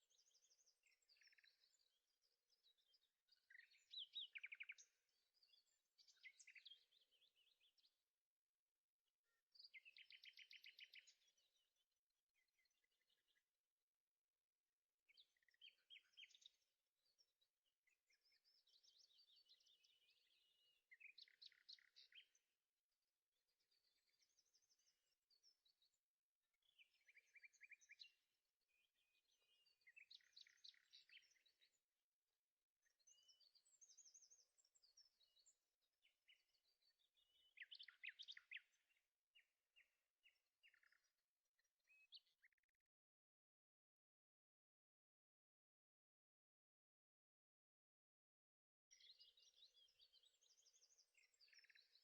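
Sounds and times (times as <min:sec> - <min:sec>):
faint birdsong chirps and trills: 0:00.0 - 0:52.0.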